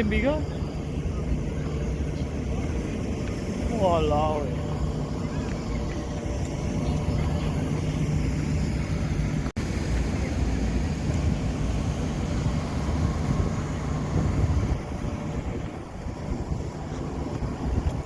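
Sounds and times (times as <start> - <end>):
low outdoor rumble: 0.0 - 18.0
wind on microphone: 0.0 - 18.0.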